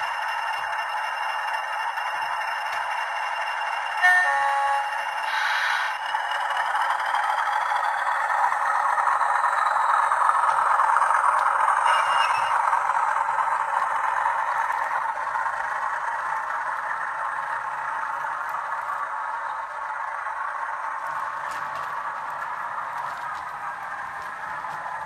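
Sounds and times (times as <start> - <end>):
diesel engine sound from small speaker: 0.0 - 25.0
wheels rattling on track: 0.0 - 25.0.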